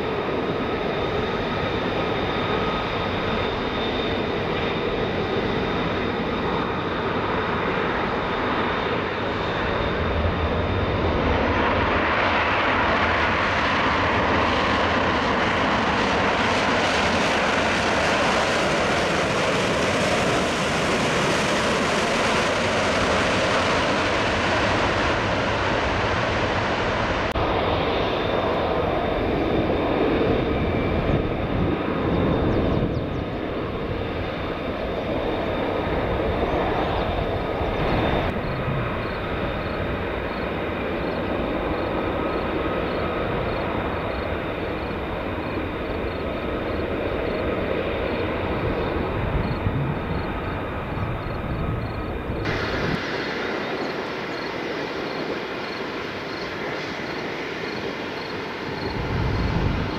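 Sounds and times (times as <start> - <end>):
jet engine whine taxiing: 0.0 - 59.9
jet engines rushing: 0.0 - 59.9.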